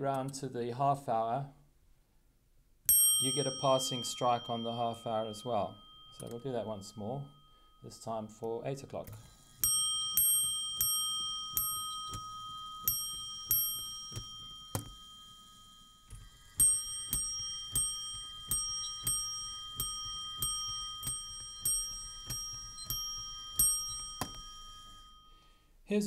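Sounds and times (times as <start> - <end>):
hammer striking metal bell: 2.9 - 8.6, 9.2 - 25.6.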